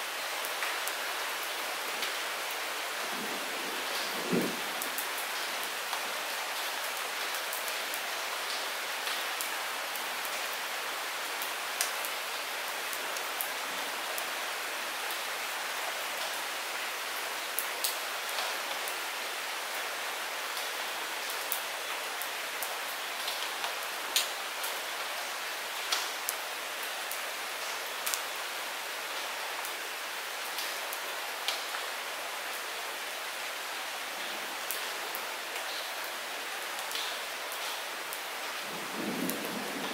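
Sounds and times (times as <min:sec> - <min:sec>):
light rain hissing: 0:00.0 - 0:39.9.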